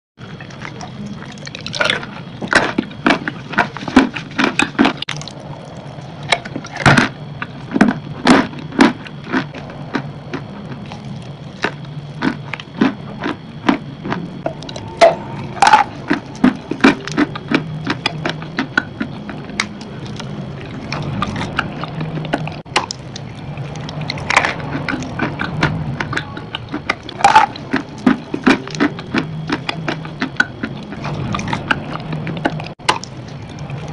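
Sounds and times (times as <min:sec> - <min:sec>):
crunchy chewing: 0:00.2 - 0:33.9
steady low hum: 0:00.2 - 0:33.9.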